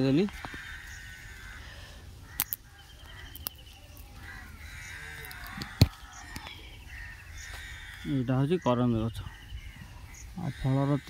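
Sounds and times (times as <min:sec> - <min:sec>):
birds calling: 0:00.0 - 0:11.0
crow-like caws: 0:00.0 - 0:11.0
outdoor ambience: 0:00.0 - 0:11.0.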